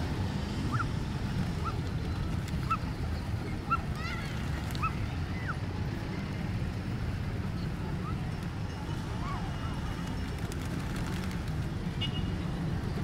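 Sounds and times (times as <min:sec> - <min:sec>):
city background rumble: 0:00.0 - 0:13.0.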